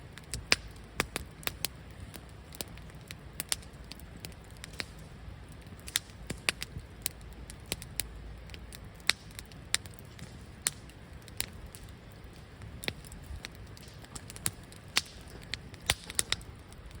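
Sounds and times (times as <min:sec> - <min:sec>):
campfire crackling and popping: 0:00.0 - 0:17.0
fire low rumble: 0:00.0 - 0:17.0.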